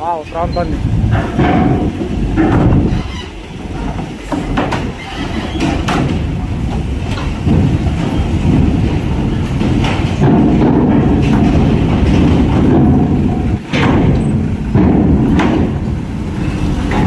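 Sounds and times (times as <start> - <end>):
truck engine rumbling: 0.0 - 17.0
wheels rolling over metal plates: 0.8 - 17.0.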